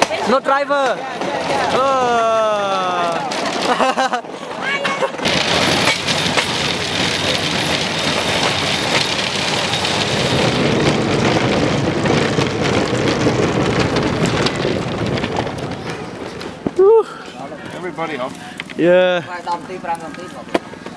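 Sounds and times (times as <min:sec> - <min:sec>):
train rattling along rails: 0:00.0 - 0:18.4
wheels clicking on track: 0:00.0 - 0:20.9.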